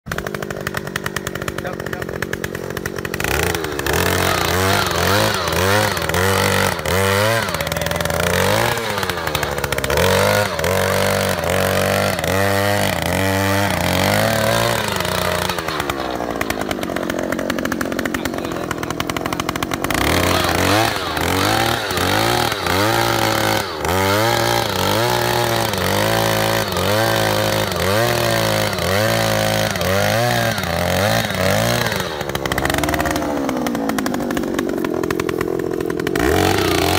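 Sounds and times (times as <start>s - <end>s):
earth auger engine drilling: 0.0s - 36.9s.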